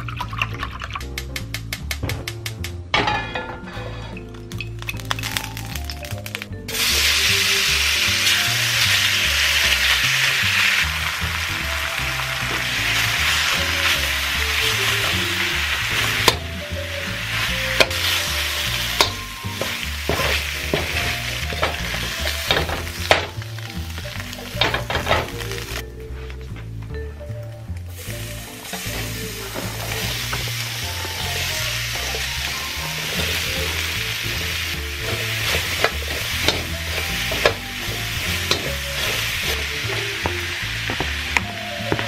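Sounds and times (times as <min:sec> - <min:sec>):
quiet background music: 0:00.0 - 0:42.0
steak sizzling in hot oil: 0:04.7 - 0:25.8, 0:27.8 - 0:42.0.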